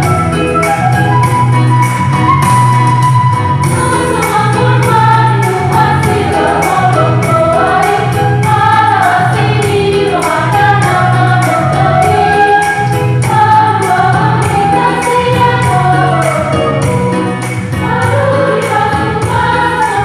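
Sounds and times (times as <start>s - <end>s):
steady accompaniment beat: 0.0s - 20.0s
choir singing praise song: 3.6s - 20.0s.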